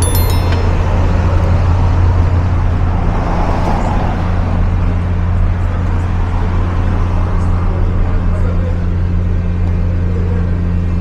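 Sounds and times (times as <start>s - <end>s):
car driving along street: 0.0s - 11.0s.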